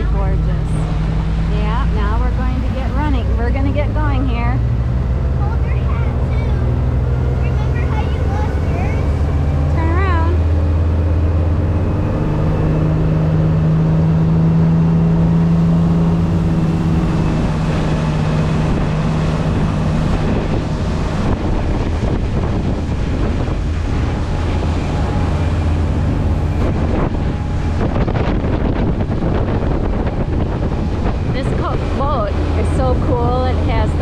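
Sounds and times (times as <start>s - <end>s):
motorboat engine hum: 0.0s - 34.0s
water noise: 0.0s - 34.0s
wind buffeting microphone: 0.0s - 34.0s.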